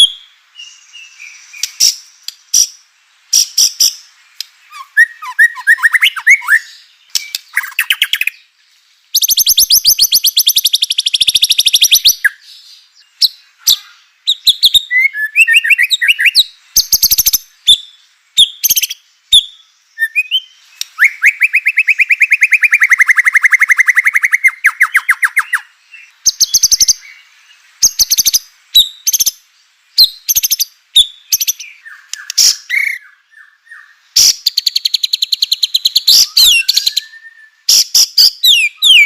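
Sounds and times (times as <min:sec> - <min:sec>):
songbird whistling and trilling: 0:00.0 - 0:02.8, 0:03.4 - 0:08.5, 0:09.1 - 0:39.0.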